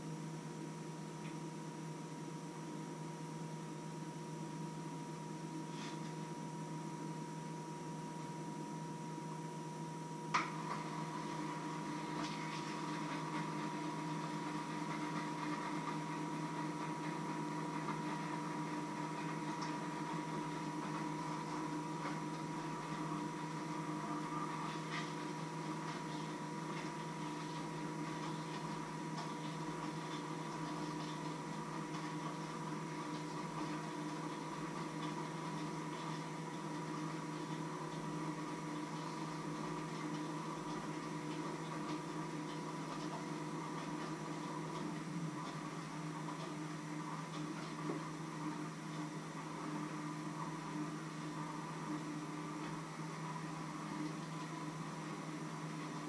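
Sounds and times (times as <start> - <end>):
mechanical hum with tones: 0.0 - 56.0.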